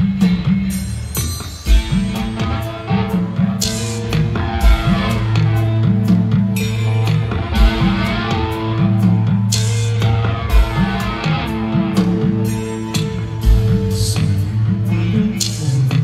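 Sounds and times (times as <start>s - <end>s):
live rock band: 0.0s - 16.0s
heavy low drum hit: 1.7s - 16.0s.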